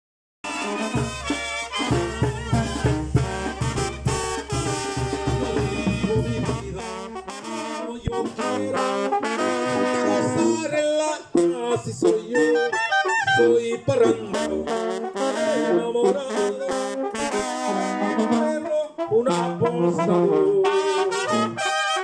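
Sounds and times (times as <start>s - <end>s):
brass band playing: 0.4s - 22.0s.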